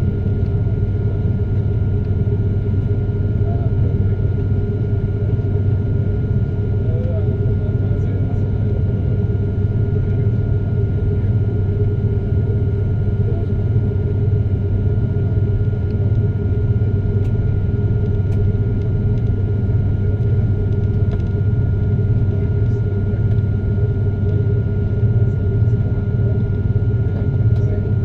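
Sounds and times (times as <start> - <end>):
jet engines idling in cabin: 0.0 - 28.0.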